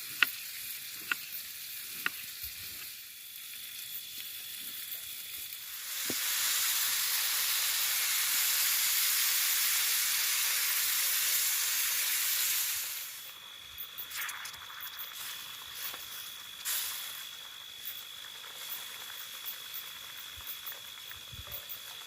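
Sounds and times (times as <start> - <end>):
food sizzling in hot pan: 0.0 - 22.0.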